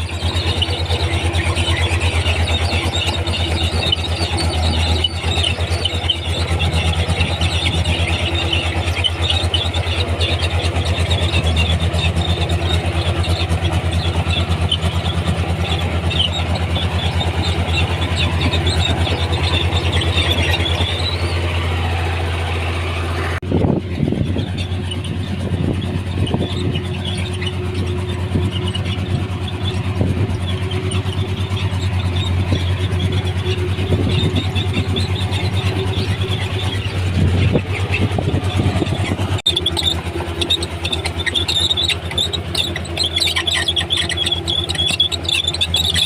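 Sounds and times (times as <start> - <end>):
diesel engine running under load: 0.0 - 46.0
steel tracks squeaking and clanking: 0.0 - 46.0.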